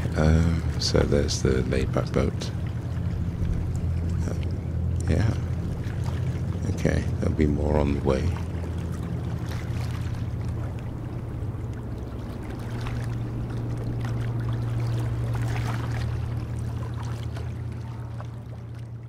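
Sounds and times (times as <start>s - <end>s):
boat engine droning: 0.0s - 19.0s
water splashing and lapping: 0.0s - 19.0s.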